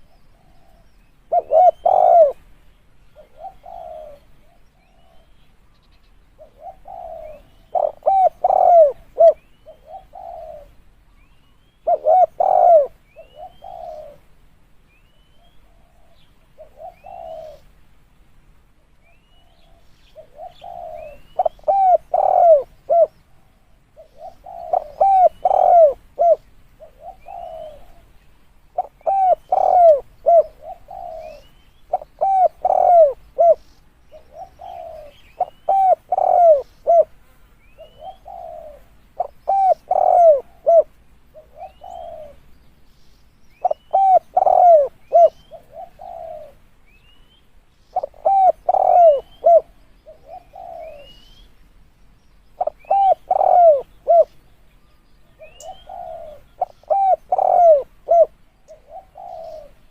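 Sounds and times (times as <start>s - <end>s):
dove cooing: 0.0s - 2.5s, 3.1s - 5.4s, 6.4s - 10.8s, 11.8s - 14.3s, 15.4s - 17.8s, 19.4s - 42.5s, 43.5s - 46.7s, 47.9s - 51.5s, 52.6s - 54.4s, 55.4s - 59.9s.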